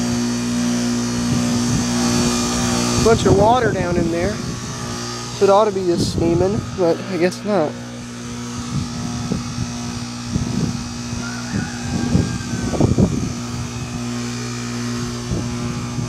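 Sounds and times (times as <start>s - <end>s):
compressor humming: 0.0s - 16.0s.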